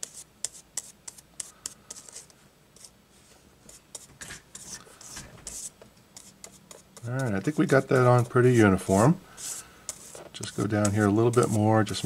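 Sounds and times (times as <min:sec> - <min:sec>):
brush strokes on wood: 0:00.8 - 0:12.0.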